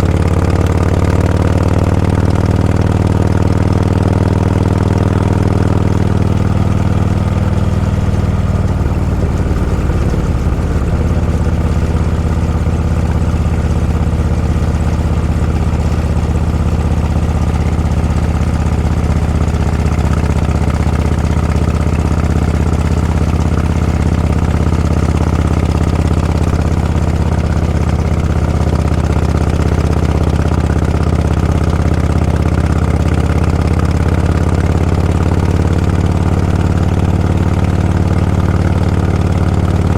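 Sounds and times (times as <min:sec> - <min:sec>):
motorcycle engine running at low revs: 0:00.0 - 0:39.9.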